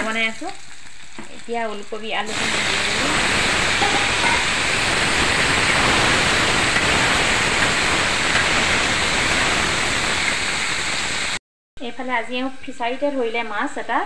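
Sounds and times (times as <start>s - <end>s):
vegetables sizzling in hot oil: 0.0s - 11.4s.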